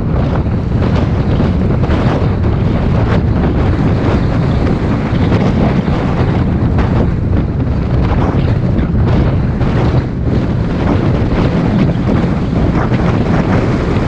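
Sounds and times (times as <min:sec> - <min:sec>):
road and engine rumble: 0:00.0 - 0:14.0
wind buffeting microphone: 0:00.0 - 0:14.0.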